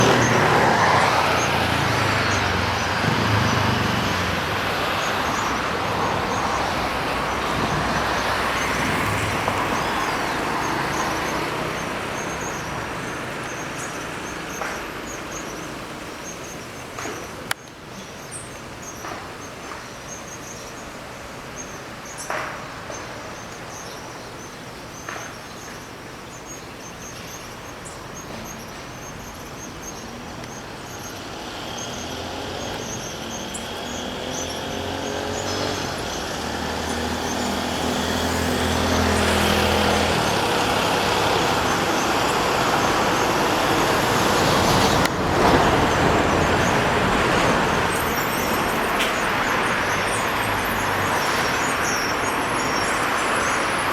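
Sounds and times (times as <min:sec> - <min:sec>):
small birds chirping: 0:00.0 - 0:53.9
traffic noise: 0:00.0 - 0:53.9.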